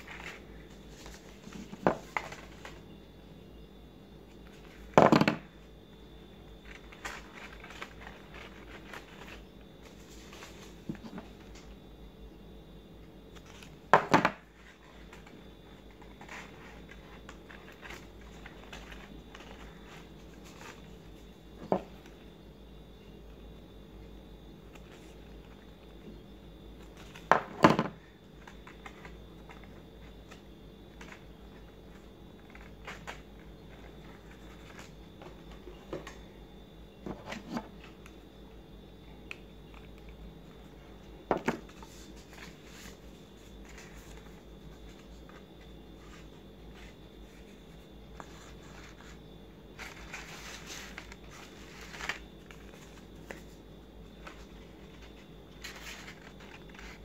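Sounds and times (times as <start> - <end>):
paper rustling and crinkling: 0.0 - 3.0, 6.5 - 11.7, 13.3 - 22.2, 24.6 - 26.1, 26.8 - 36.2, 39.3 - 57.0.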